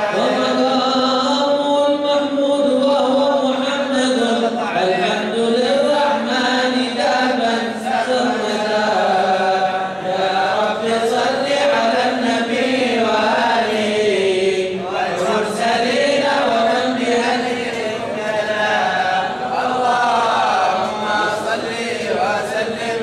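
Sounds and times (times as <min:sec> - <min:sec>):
men chanting devotional verses: 0:00.0 - 0:23.0.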